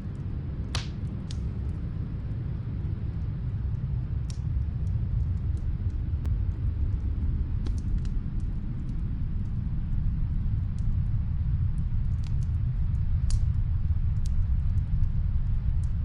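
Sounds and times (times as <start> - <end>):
snowstorm wind rumbling: 0.0 - 16.0
wood fire crackling: 0.0 - 16.0.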